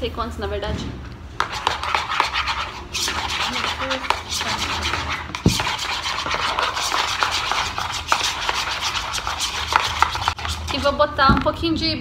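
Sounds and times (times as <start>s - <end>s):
spoons scraping slime in bowls: 1.4s - 11.6s.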